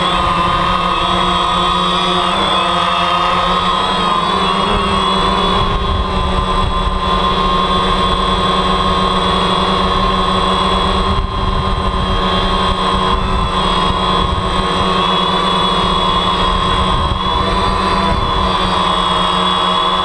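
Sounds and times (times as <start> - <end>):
drone propellers buzzing: 0.0 - 20.0.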